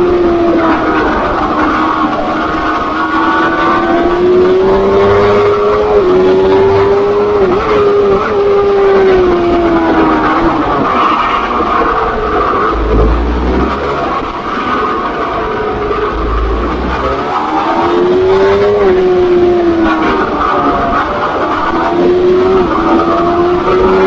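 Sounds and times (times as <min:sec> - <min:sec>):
motorbike engine at high revs: 0:00.0 - 0:24.0
other motorbike engines: 0:00.0 - 0:24.0.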